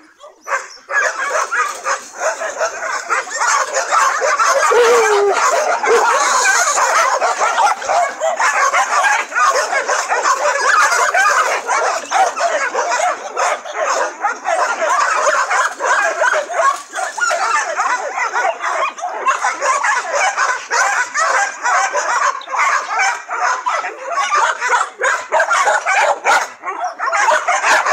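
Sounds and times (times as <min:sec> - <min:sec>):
dogs barking and whining: 0:00.0 - 0:27.9.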